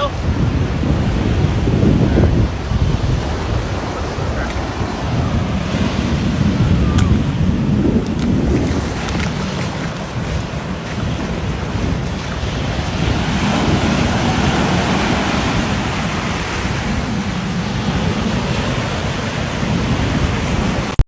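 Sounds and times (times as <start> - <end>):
waves: 0.0 - 21.0
wind: 0.0 - 21.0
wind buffeting microphone: 0.0 - 21.0.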